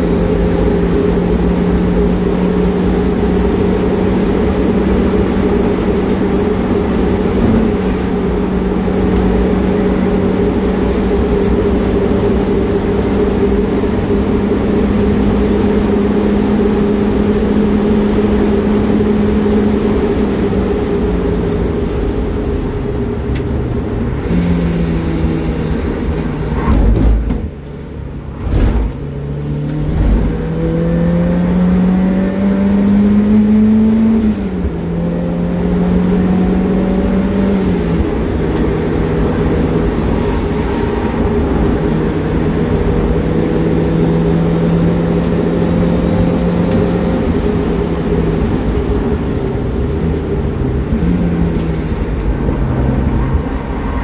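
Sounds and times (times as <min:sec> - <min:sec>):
car engine from inside cabin: 0:00.0 - 0:54.0.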